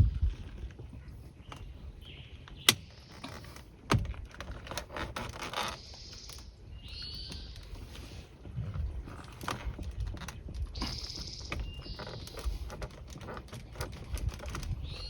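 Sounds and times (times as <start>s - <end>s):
plastic and metal rattling and scraping: 0.0s - 15.0s.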